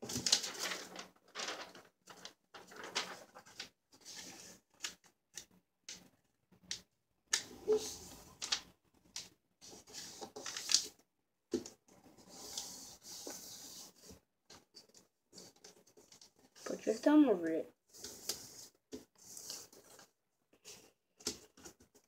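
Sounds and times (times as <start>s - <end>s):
paper rustling while folded: 0.0s - 6.1s, 6.7s - 11.0s, 11.6s - 22.0s.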